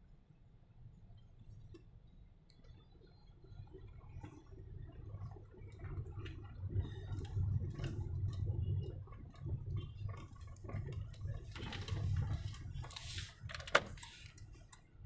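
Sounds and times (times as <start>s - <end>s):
car engine and tyres rumbling: 0.2s - 15.0s.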